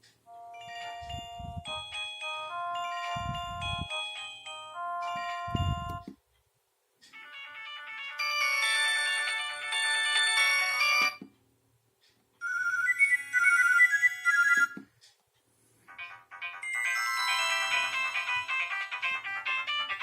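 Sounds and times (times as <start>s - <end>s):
mobile phone ringtones: 0.3s - 6.1s, 7.1s - 11.2s, 12.4s - 14.8s, 15.9s - 20.0s.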